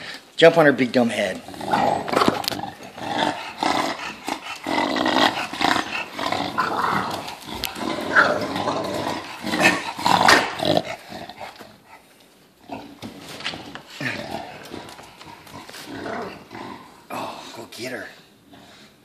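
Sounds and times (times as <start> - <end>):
bulldogs growling in play: 1.1 - 17.6.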